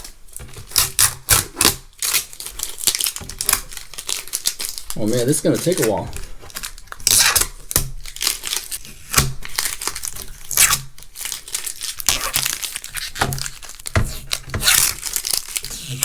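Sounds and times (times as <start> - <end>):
stickers tearing and crinkling: 0.6 - 16.0.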